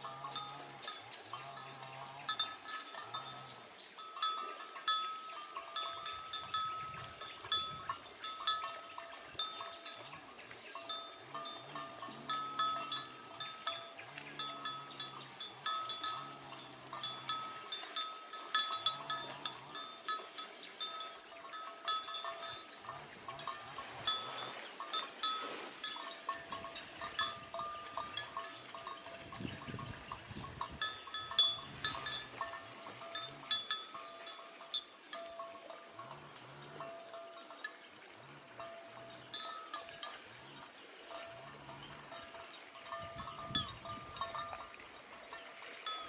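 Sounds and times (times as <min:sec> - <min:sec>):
livestock bells clanking: 0:00.0 - 0:46.0.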